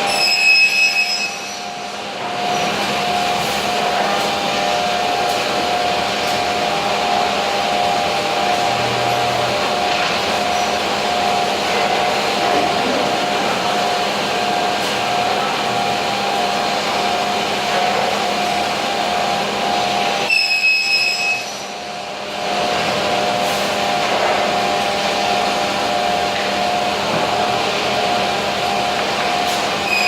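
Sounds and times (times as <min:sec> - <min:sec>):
high-pitched machine whine: 0:00.0 - 0:30.0.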